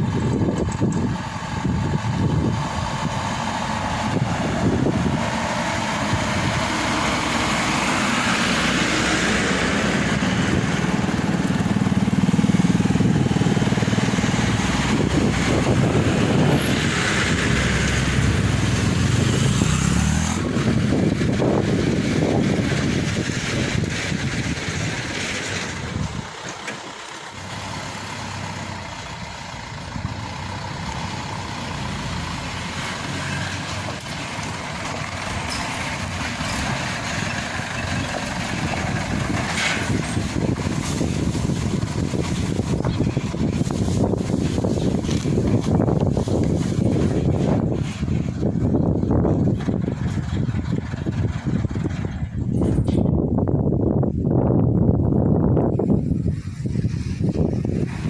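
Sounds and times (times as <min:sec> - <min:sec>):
heavy vehicle engine under load: 0:00.0 - 0:58.0.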